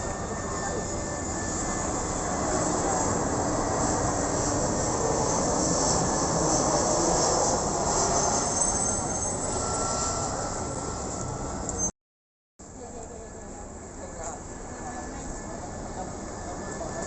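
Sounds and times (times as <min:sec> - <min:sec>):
jet airliner engine roar: 0:00.0 - 0:11.9, 0:13.1 - 0:17.0.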